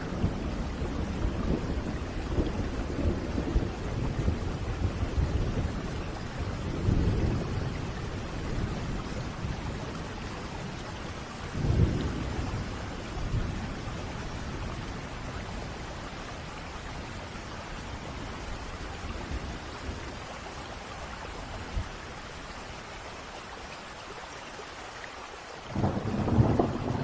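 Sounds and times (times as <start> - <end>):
low thunder rumbling: 0.0 - 20.8, 25.7 - 27.0
steady rain: 0.0 - 27.0.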